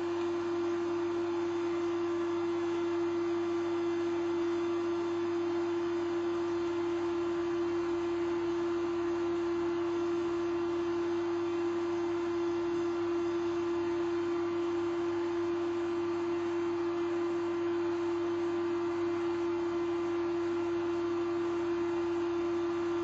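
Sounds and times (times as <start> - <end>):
equipment humming tone: 0.0 - 23.0.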